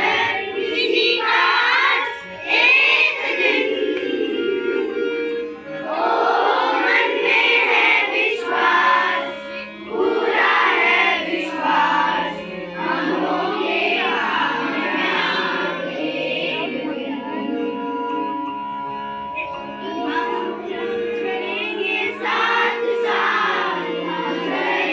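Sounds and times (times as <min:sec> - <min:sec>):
children singing: 0:00.0 - 0:24.9
held backing notes: 0:00.0 - 0:24.9.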